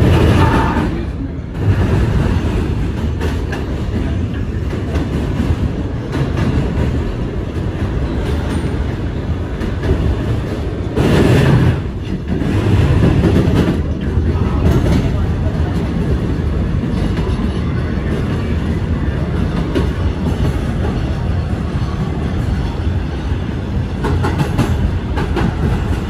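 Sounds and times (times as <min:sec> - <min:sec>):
subway wheels rumbling on rail: 0:00.0 - 0:26.0.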